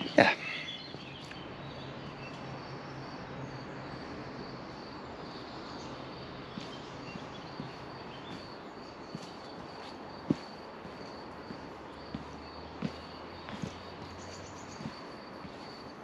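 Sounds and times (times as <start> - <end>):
footsteps on outdoor steps: 0.0 - 16.0.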